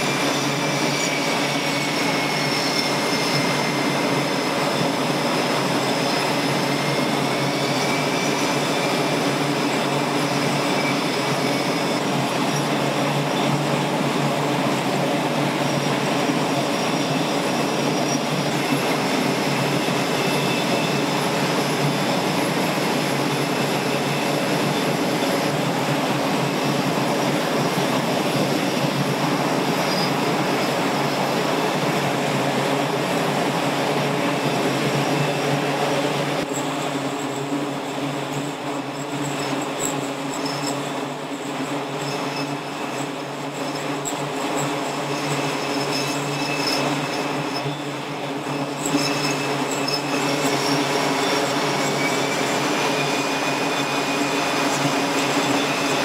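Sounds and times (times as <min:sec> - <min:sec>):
high turbine whine: 0:00.0 - 0:56.0
jet engines roaring: 0:00.0 - 0:56.0.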